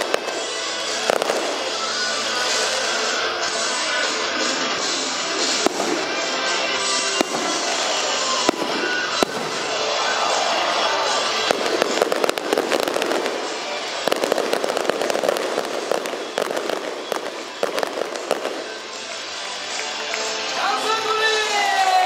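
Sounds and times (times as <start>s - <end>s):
fireworks bangs: 0.0s - 20.2s
fireworks crackling: 0.0s - 22.0s
music playing: 0.0s - 22.0s.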